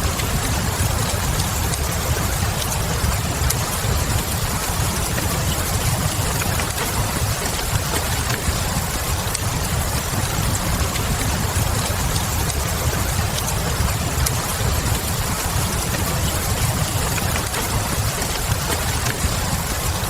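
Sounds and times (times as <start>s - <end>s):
rain hissing: 0.0s - 20.0s
wood fire crackling: 0.0s - 20.0s.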